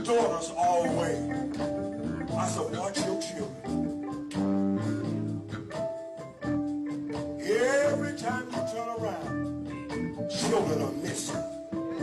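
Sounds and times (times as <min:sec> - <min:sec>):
person singing: 0:00.0 - 0:05.9, 0:07.4 - 0:09.4, 0:10.2 - 0:12.0
steady drum beat: 0:00.0 - 0:11.9
sustained keyboard chords: 0:00.0 - 0:12.0.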